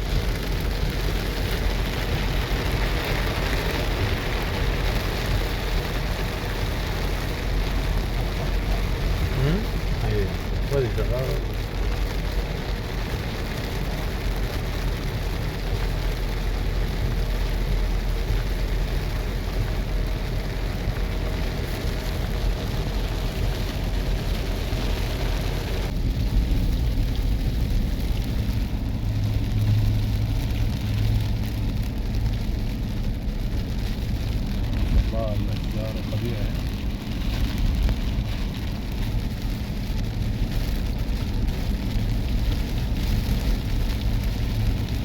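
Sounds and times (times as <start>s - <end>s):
heavy rain pouring: 0.0s - 45.0s
vehicle rumble: 0.0s - 45.0s.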